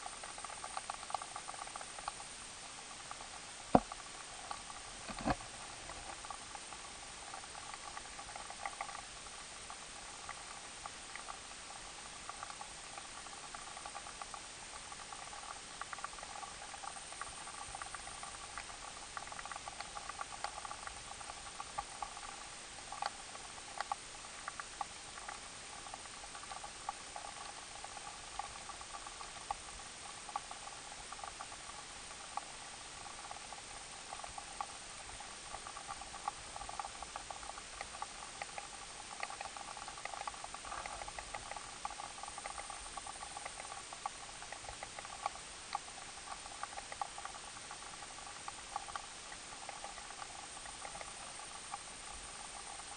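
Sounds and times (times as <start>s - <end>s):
small clicks and ticks underwater: 0.0s - 52.9s.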